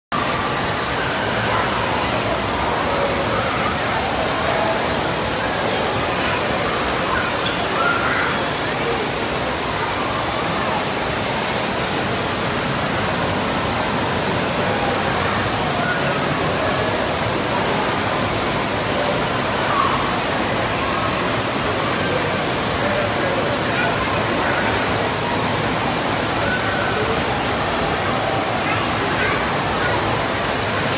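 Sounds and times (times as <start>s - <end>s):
indistinct crowd voices: 0.2s - 30.9s.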